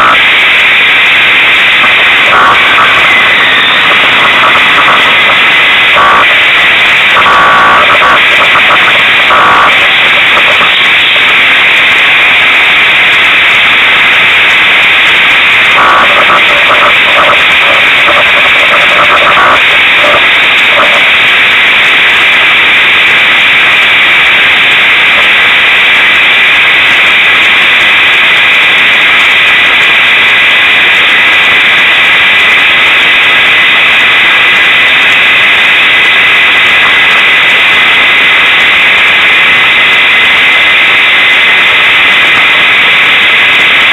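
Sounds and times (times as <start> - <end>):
overloaded hiss-like noise: 0.0 - 43.9.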